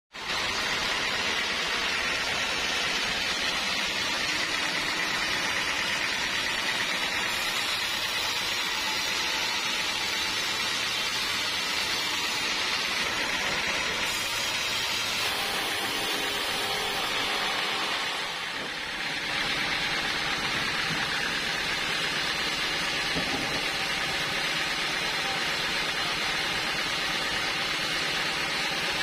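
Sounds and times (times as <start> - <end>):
band saw blade cutting log: 0.1 - 29.0.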